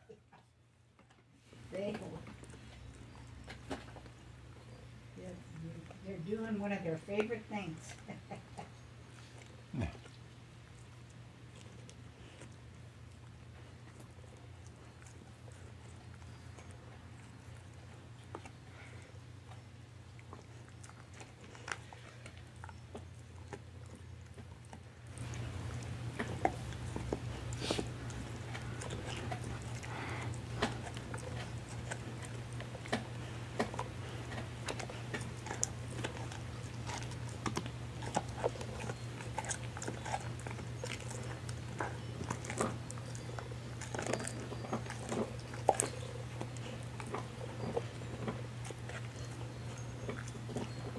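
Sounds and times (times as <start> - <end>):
dog crunching chew treat: 1.0 - 50.9.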